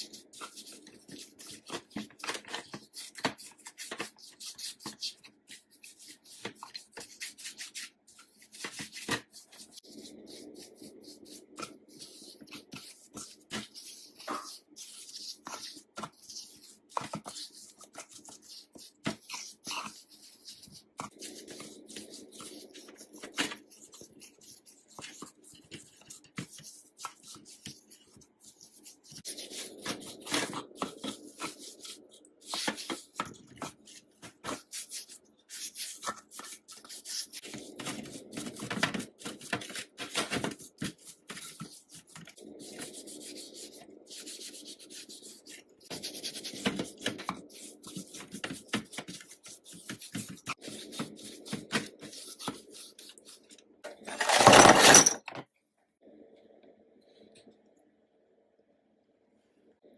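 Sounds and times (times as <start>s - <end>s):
hand rubbing and scraping: 0.0s - 55.4s.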